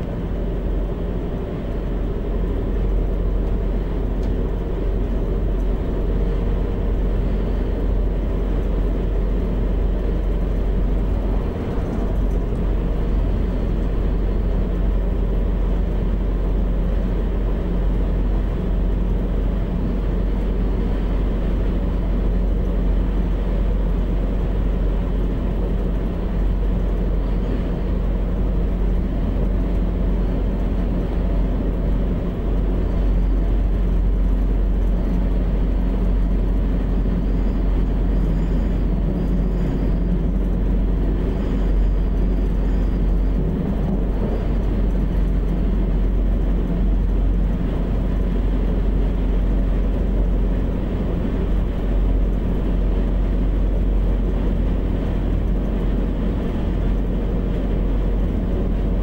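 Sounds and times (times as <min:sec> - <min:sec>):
diesel engine drone: 0:00.0 - 0:59.0
wheels rumbling on rails: 0:00.0 - 0:59.0.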